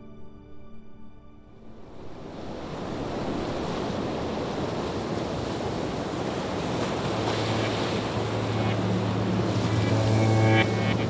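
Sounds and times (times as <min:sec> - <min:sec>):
wind: 0:01.4 - 0:11.0
sea waves: 0:01.5 - 0:11.0.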